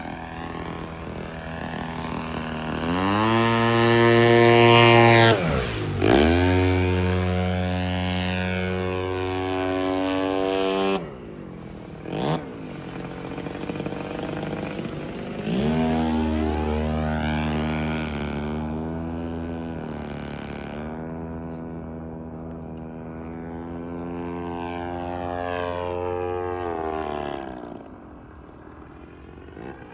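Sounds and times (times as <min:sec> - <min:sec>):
model airplane motor and propeller: 0:00.0 - 0:29.9.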